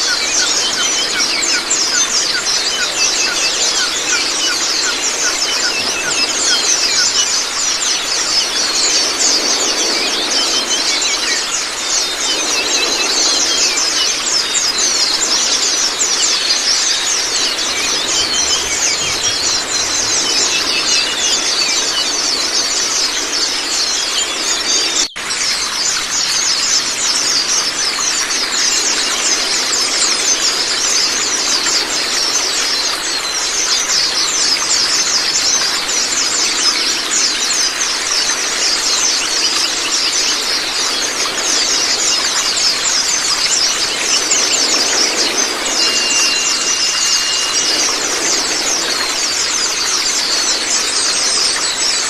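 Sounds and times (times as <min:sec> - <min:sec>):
birds chirping and twittering: 0:00.0 - 0:52.0
rushing water-like noise: 0:00.0 - 0:52.0.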